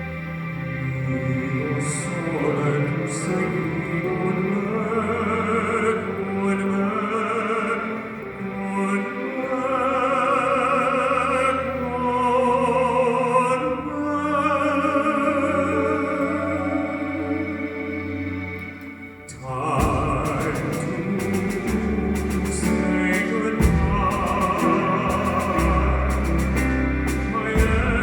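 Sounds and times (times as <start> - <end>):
slow operatic music: 0.0 - 28.0.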